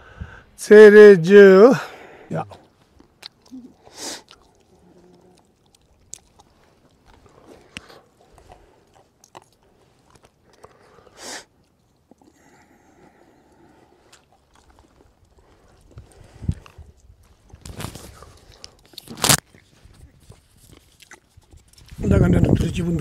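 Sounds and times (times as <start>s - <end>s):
people crunching snacks: 2.4s - 22.1s.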